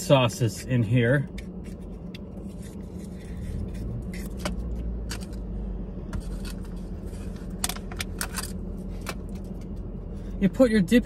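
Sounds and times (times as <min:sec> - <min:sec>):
low hum in car cabin: 0:00.0 - 0:11.0.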